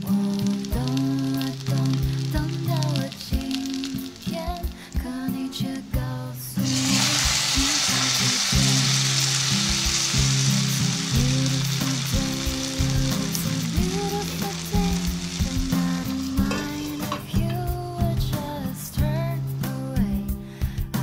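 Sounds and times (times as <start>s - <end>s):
batter sizzling in a frying pan: 0.0s - 19.2s.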